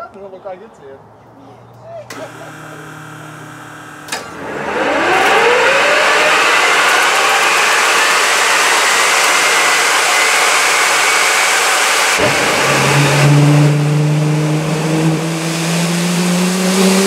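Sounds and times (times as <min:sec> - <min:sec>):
jet engine roaring with whine: 0:02.2 - 0:17.0.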